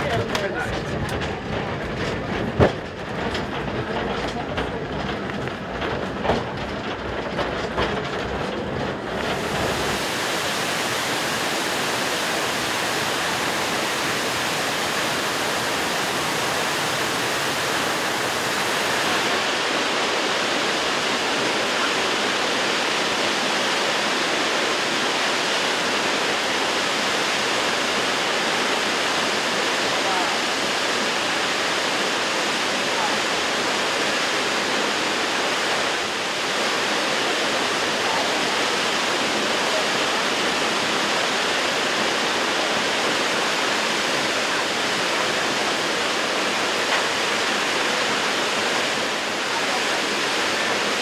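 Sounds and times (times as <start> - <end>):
funicular car rumbling on rails: 0.0 - 51.0
waterfall rushing: 8.7 - 51.0.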